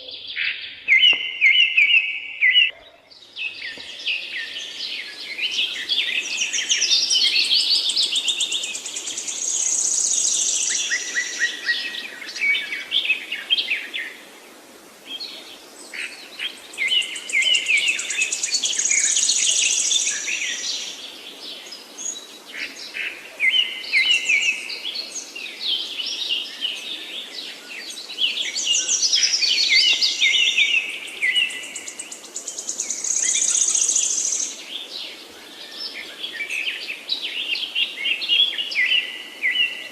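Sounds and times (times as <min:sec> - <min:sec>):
songbirds singing trills: 0:00.0 - 0:14.2, 0:15.1 - 0:39.9.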